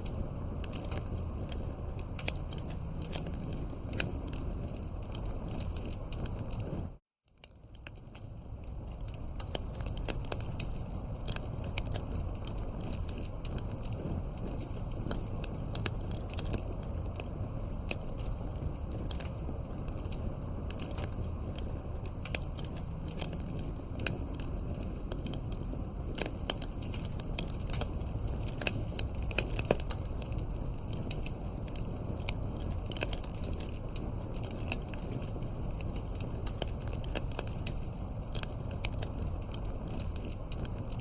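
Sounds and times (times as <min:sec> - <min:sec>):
campfire crackling and popping: 0:00.0 - 0:41.0
low rumble of burning: 0:00.0 - 0:41.0.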